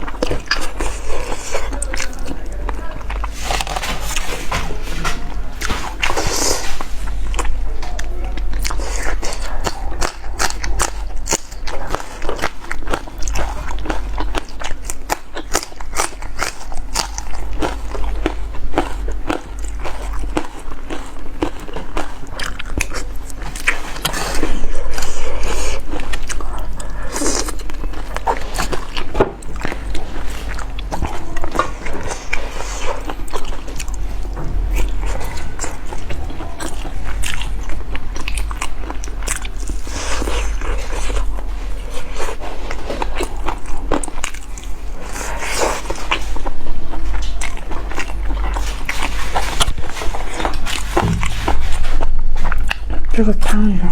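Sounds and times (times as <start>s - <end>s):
crunching and chewing: 0.0s - 53.6s
steady low hum: 0.0s - 53.9s.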